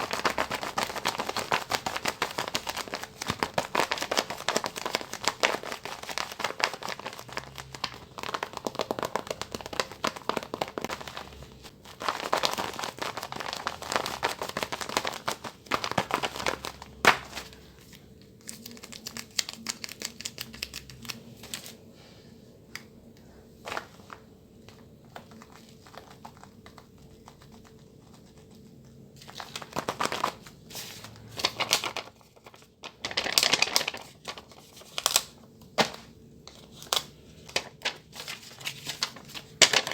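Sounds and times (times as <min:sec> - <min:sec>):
paper crinkling and rustling: 0:00.0 - 0:21.8, 0:23.6 - 0:39.9.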